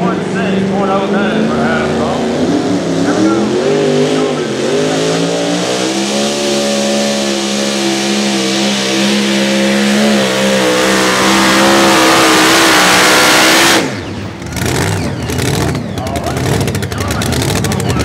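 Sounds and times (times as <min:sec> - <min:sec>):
truck engine at full throttle: 0:00.0 - 0:18.0.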